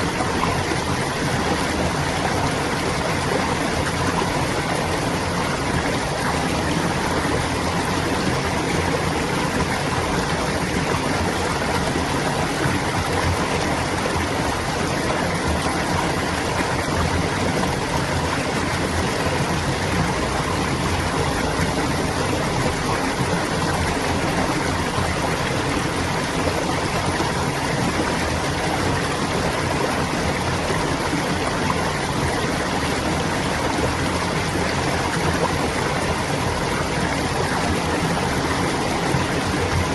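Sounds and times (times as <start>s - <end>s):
water babbling in a stream: 0.0s - 39.9s.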